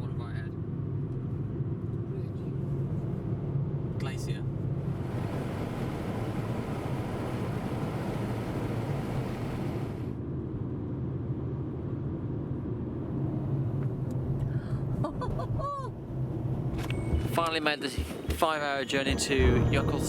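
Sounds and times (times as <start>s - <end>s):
car engine and tyre rumble: 0.0s - 18.5s.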